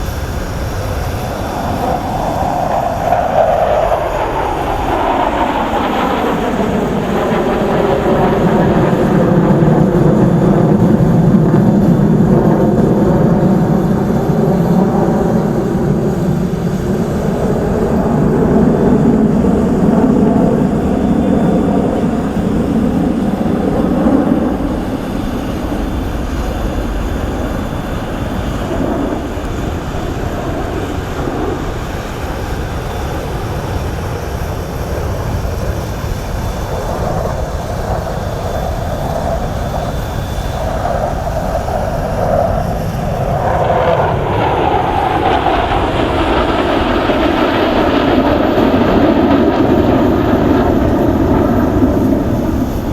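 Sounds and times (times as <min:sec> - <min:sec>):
fighter jets flying past: 0:00.0 - 0:52.9.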